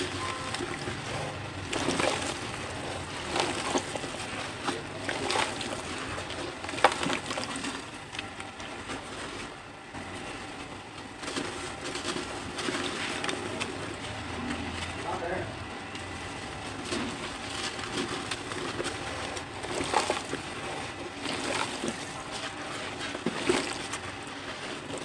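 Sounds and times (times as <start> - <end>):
cement chunks crunching: 0.0 - 25.0
powder and grit pouring: 0.0 - 25.0.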